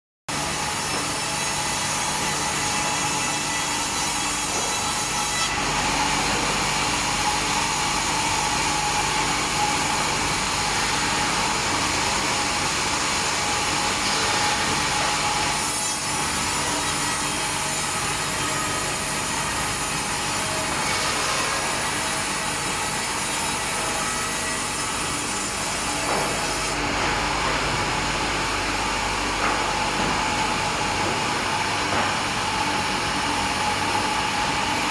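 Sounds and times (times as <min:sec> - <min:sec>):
sawmill saw cutting timber: 0:00.3 - 0:34.9.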